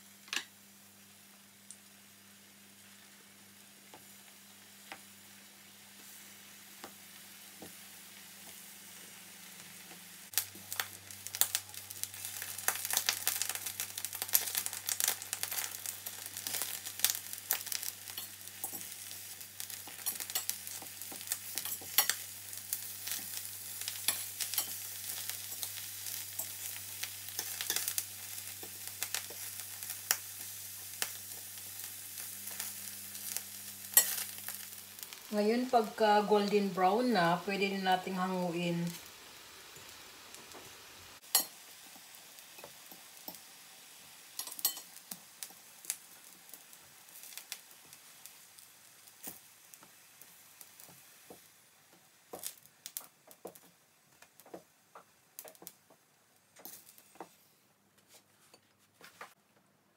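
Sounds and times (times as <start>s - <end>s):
eggplant sizzling with pops: 0.0s - 59.4s.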